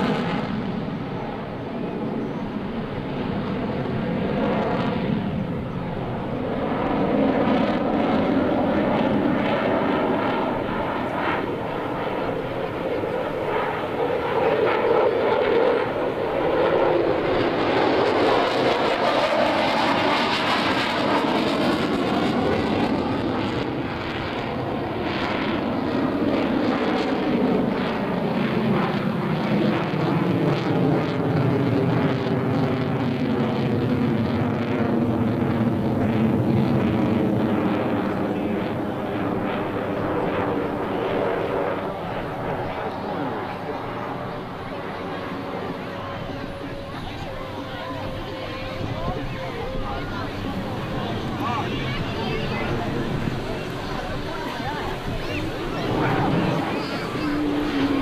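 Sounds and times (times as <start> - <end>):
jet flying past: 0.0 - 58.0.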